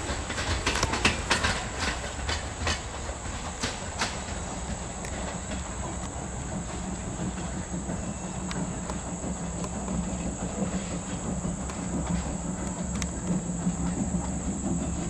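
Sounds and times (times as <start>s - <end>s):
train rumbling on track: 0.0s - 15.0s
wheels clicking over rail joints: 0.0s - 15.0s.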